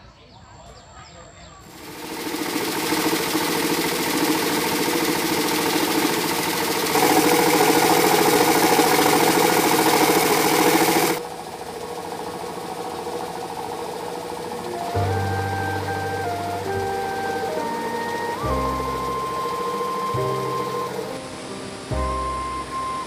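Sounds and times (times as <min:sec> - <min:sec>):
small engine buzzing: 0:01.7 - 0:23.0.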